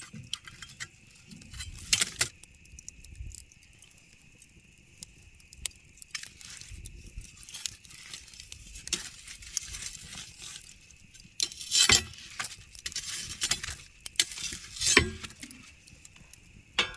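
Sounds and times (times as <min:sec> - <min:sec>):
campfire crackling: 0:00.0 - 0:16.9
fire pops: 0:00.0 - 0:16.9.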